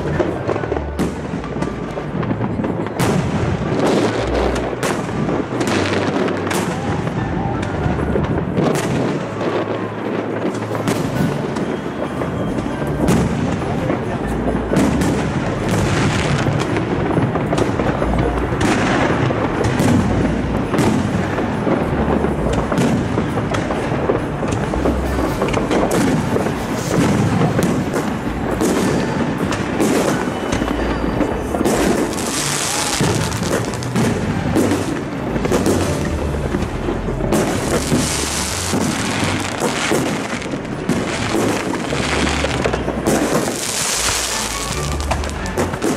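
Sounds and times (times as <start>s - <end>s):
fireworks bangs and crackles: 0.0s - 45.9s
music playing: 0.0s - 45.9s.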